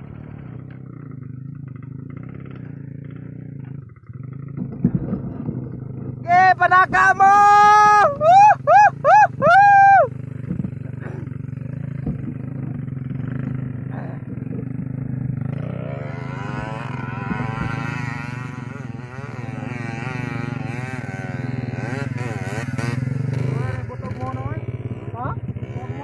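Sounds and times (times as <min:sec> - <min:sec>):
motorbike engine idling: 0:00.0 - 0:26.0
motorbike engine revving: 0:00.0 - 0:26.0.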